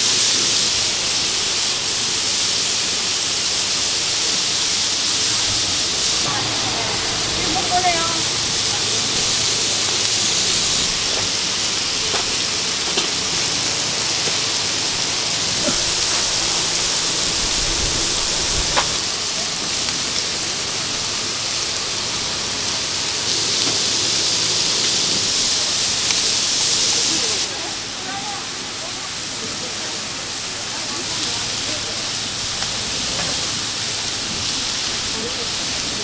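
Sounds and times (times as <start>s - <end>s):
skewers sizzling on griddle: 0.0s - 36.0s.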